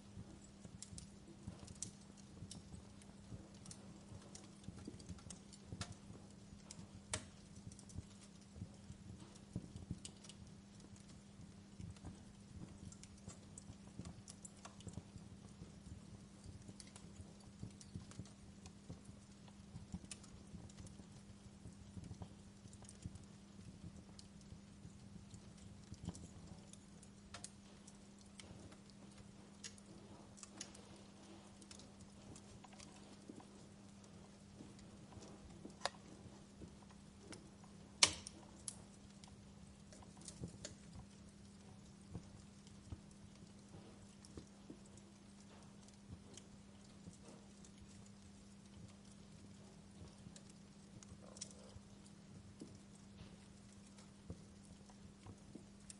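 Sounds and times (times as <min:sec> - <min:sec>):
faint low hum: 0:00.0 - 0:55.9
faint steady hiss: 0:00.0 - 0:55.9
fire pops and snaps: 0:00.0 - 0:55.9
wood fire crackling: 0:00.0 - 0:55.9.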